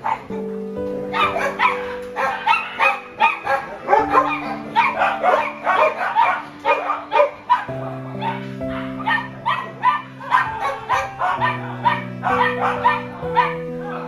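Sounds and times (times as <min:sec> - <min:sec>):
dogs barking and yipping: 0:00.0 - 0:14.0
music with long held notes: 0:00.0 - 0:14.0.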